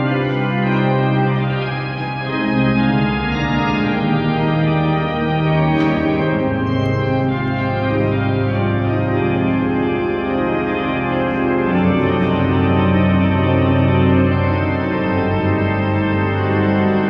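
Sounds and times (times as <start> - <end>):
pipe organ chords: 0.0 - 17.0.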